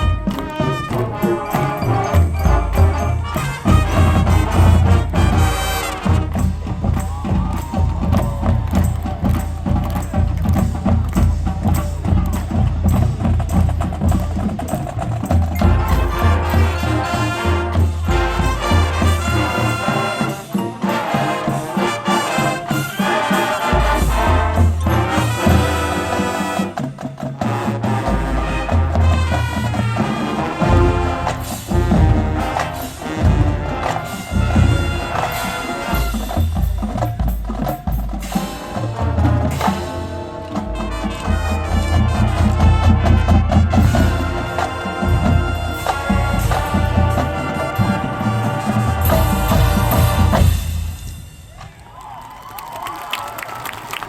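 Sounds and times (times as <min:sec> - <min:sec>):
drumline beat: 0:00.0 - 0:52.2
marching band brass horns: 0:00.0 - 0:52.2.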